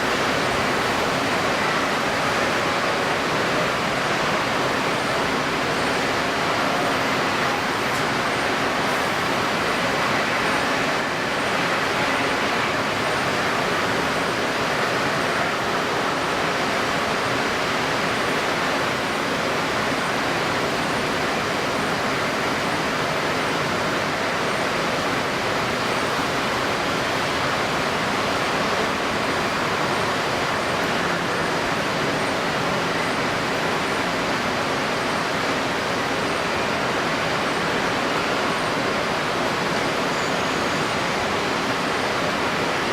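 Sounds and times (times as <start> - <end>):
strong wind: 0.0 - 42.9
wind-stirred water: 0.0 - 42.9.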